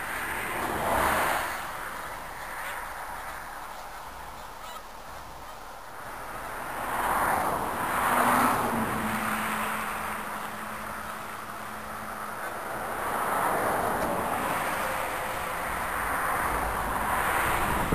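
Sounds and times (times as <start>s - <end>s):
geese honking: 0.0s - 7.2s, 7.8s - 17.8s.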